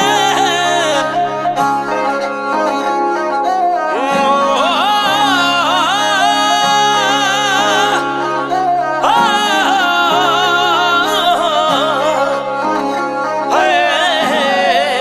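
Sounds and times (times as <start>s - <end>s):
ornamented sliding melody: 0.0s - 15.0s.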